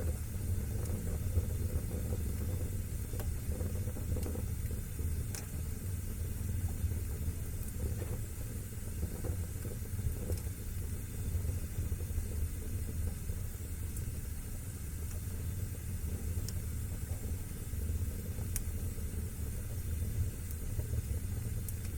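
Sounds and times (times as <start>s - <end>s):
fire burning in fireplace: 0.0s - 21.9s
fire crackling and popping: 0.0s - 21.9s.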